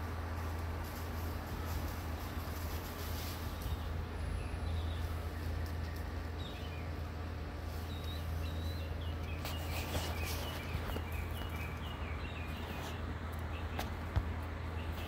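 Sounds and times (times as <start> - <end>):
steady low hum: 0.0 - 15.0
small birds chirping: 0.1 - 15.0.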